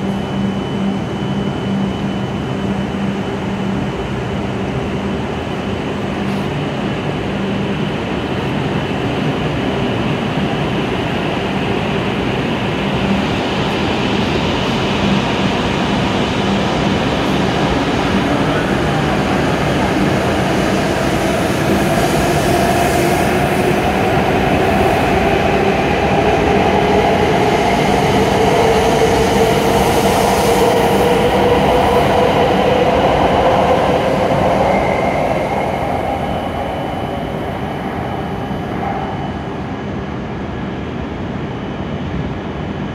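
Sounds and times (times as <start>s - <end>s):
train running with rising whine: 0.0s - 42.9s.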